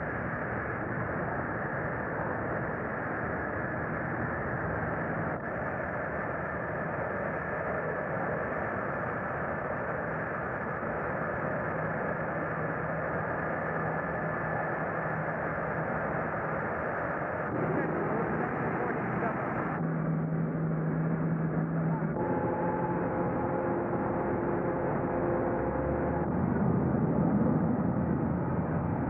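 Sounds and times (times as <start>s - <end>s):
faint low hum: 0.0s - 29.0s
jet engine noise: 0.0s - 29.0s.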